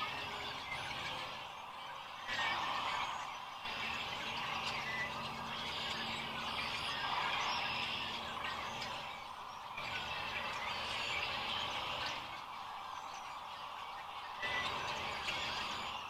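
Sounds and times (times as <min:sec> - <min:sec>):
flock of cranes calling: 0:00.0 - 0:16.0.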